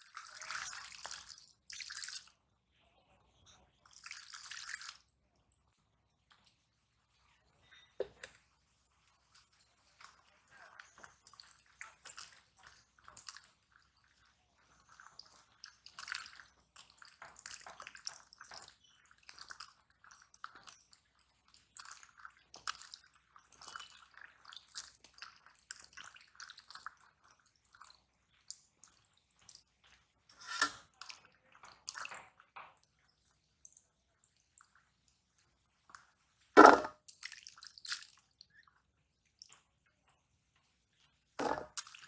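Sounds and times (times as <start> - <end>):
hands washing vegetable pieces: 0.0 - 2.5, 8.1 - 42.0.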